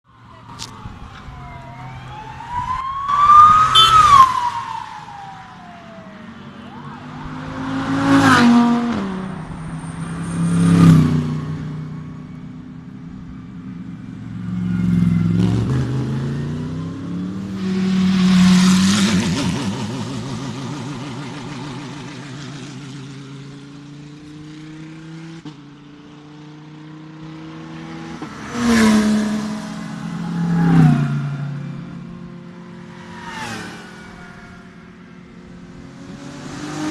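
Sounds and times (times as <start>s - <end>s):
race car engines revving: 0.2s - 36.9s.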